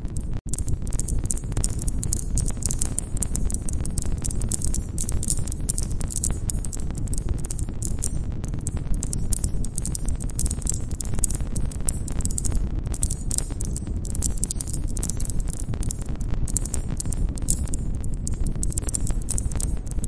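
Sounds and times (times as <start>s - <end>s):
campfire crackling and popping: 0.4s - 19.9s.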